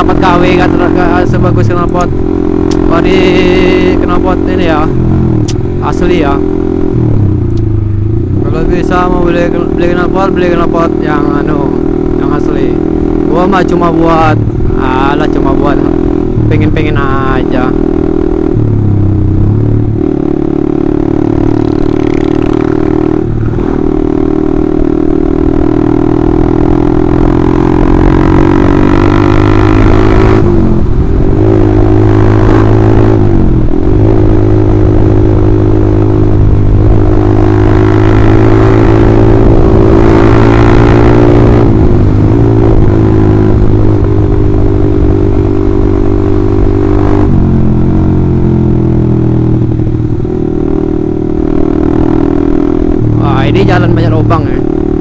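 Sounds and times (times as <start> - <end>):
motorcycle engine with loud exhaust: 0.0 - 55.0.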